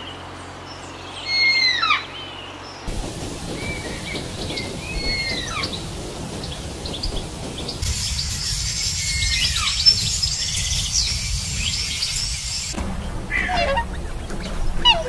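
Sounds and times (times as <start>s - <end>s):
birds whistling downward: 1.1s - 2.2s, 3.1s - 15.0s
dense high hiss: 2.9s - 15.0s.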